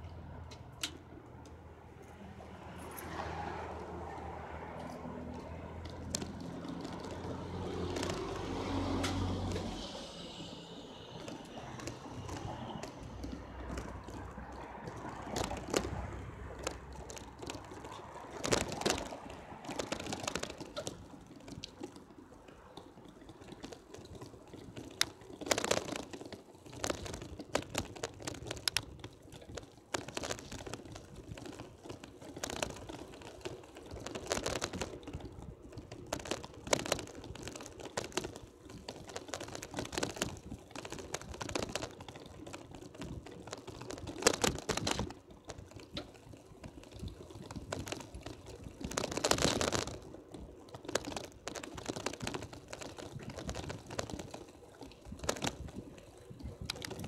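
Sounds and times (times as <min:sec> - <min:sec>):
bicycle rattling over pavement: 0:00.0 - 0:57.0.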